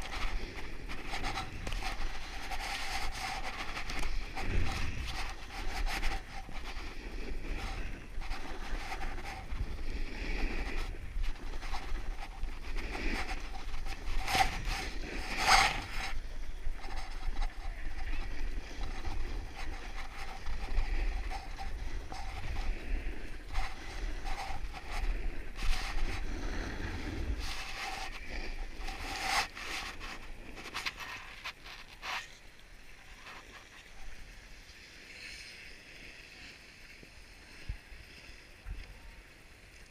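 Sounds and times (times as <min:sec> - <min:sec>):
snowboard scraping over snow: 0:00.0 - 0:32.2.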